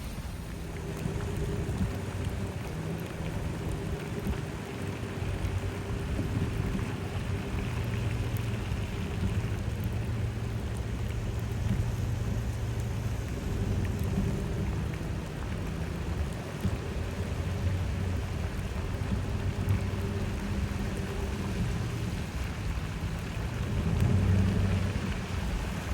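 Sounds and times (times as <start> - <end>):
heavy rain falling: 0.0 - 25.9
low steady rumble: 0.0 - 25.9.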